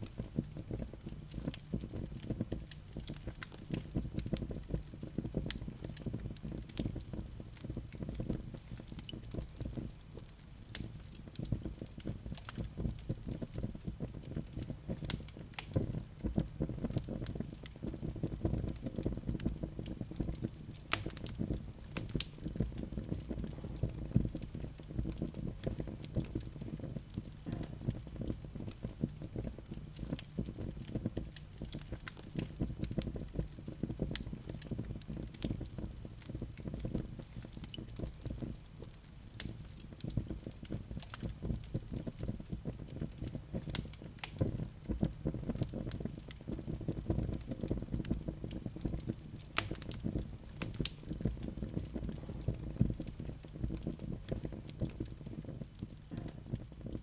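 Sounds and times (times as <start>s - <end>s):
burning wood popping and snapping: 0.0s - 57.0s
low rumble of flames: 0.0s - 57.0s.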